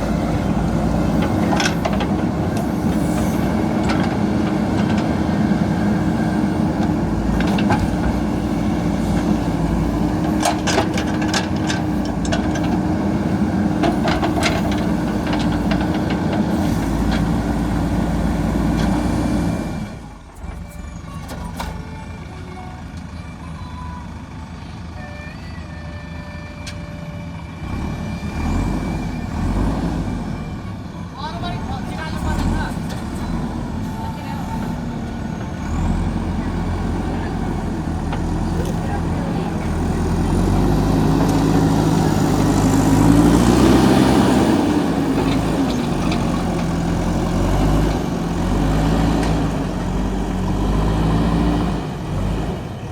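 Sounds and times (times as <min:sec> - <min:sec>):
diesel engine under load: 0:00.0 - 0:52.9.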